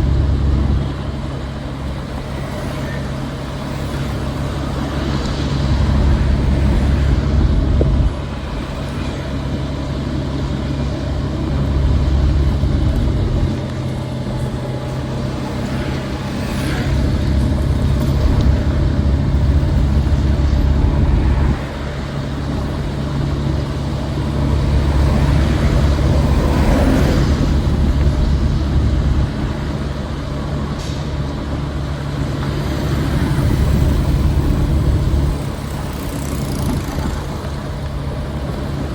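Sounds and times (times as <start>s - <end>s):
motor vehicles passing: 0.0s - 38.9s.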